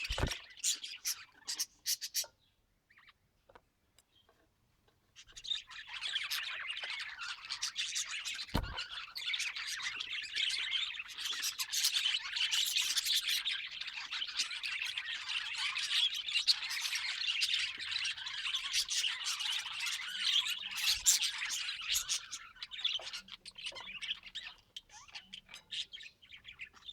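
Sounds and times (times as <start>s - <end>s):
budgerigars chattering and squawking: 0.0s - 3.2s, 5.2s - 26.9s.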